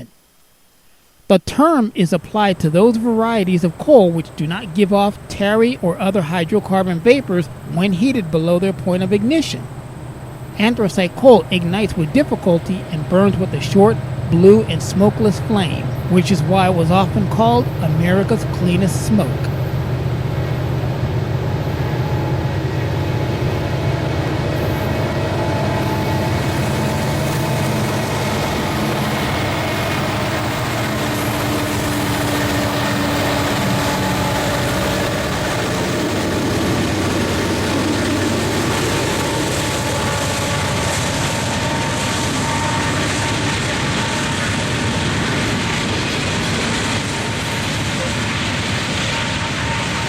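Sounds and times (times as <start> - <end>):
freight train rumbling past: 2.2 - 50.0.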